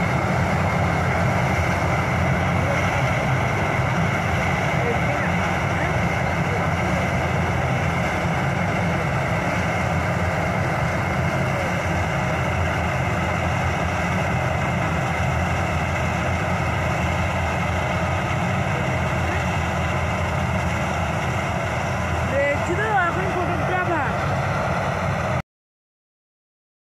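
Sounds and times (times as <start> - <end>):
combine harvester running: 0.0 - 25.4.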